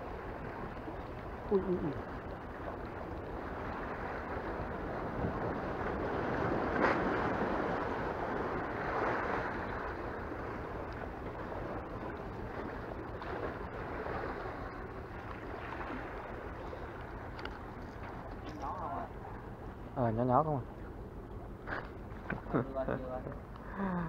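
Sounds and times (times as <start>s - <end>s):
sea waves washing on breakwater: 0.0s - 20.5s.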